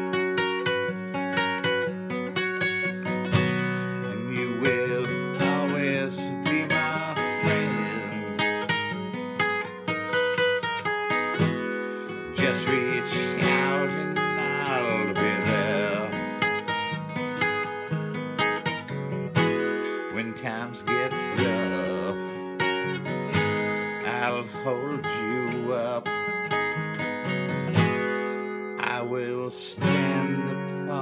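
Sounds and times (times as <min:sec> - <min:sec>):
acoustic guitar chords: 0:00.0 - 0:31.0.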